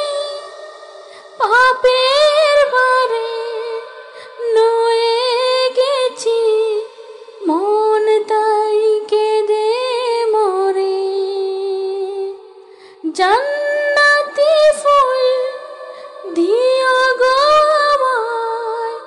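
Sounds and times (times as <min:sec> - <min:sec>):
woman singing with vibrato: 0:00.0 - 0:19.0.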